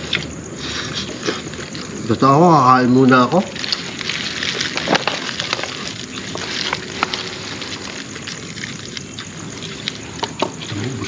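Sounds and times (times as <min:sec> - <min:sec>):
paper and plastic bags rustling: 0:00.0 - 0:11.0.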